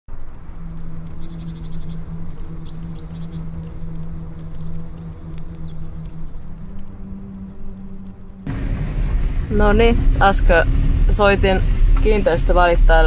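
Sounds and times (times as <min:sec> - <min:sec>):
steady low hum: 0:00.3 - 0:13.0.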